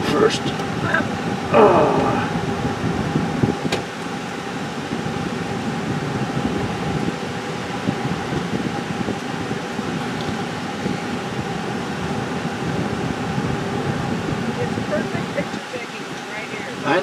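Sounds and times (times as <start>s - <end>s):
faint steady whine: 0.0s - 17.0s
vehicle engine rumble: 0.0s - 17.0s.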